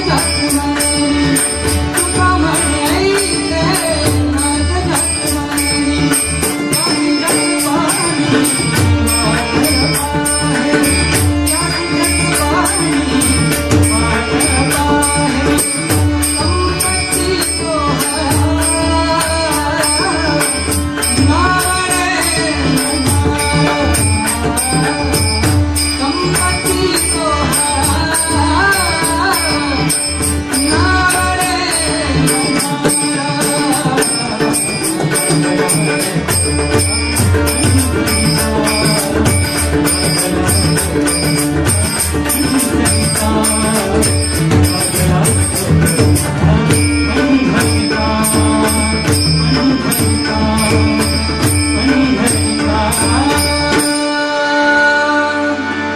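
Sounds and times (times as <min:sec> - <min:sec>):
hand cymbals: 0:00.0 - 0:54.2
man singing devotional song: 0:00.0 - 0:55.9.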